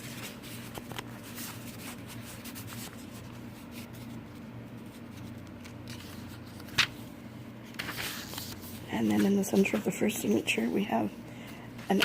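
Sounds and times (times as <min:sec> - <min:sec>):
paper rustling and crinkling: 0:00.0 - 0:10.0
steady low hum: 0:00.0 - 0:12.0.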